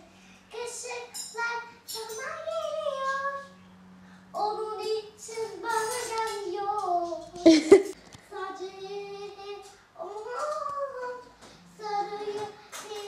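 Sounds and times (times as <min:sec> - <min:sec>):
child singing: 0:00.0 - 0:03.6, 0:04.4 - 0:07.7, 0:08.3 - 0:13.0.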